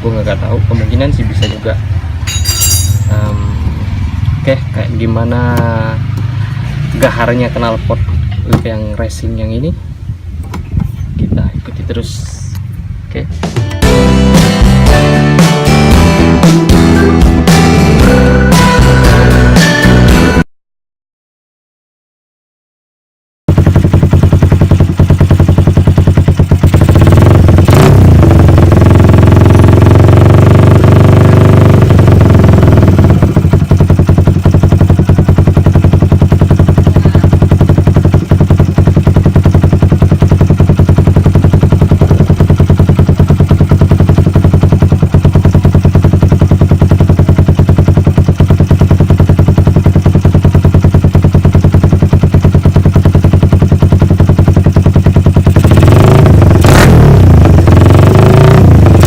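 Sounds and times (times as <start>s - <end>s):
motorcycle engine revving and idling: 0.0s - 19.5s, 23.5s - 59.0s.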